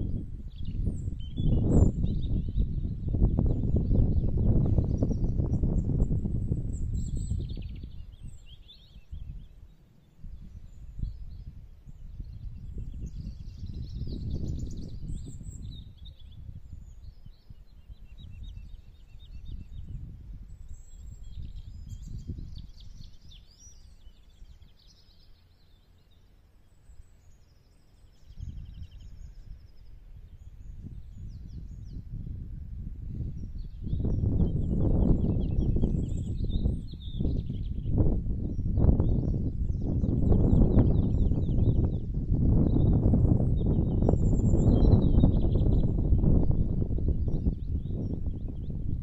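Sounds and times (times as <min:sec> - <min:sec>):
wind buffeting microphone: 0:00.0 - 0:25.6, 0:26.8 - 0:49.0
songbirds chirping: 0:00.0 - 0:49.0.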